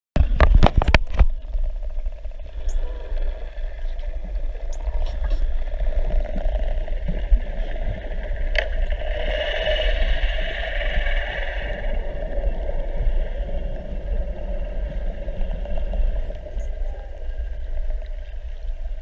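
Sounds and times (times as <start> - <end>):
low rumbling drone: 0.2 - 19.0
dolphins whistling underwater: 2.5 - 8.2, 8.8 - 18.8.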